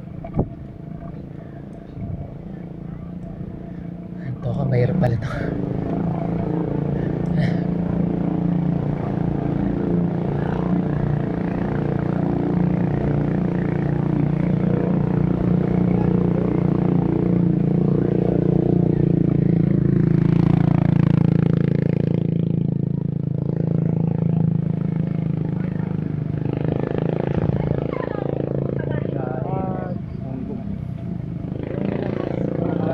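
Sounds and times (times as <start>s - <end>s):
vehicle engine droning: 0.0s - 32.9s.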